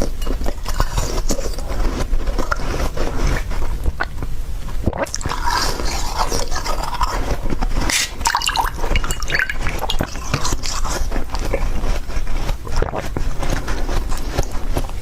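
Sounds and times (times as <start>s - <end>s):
chewing slushy ice crunching: 0.0s - 15.0s.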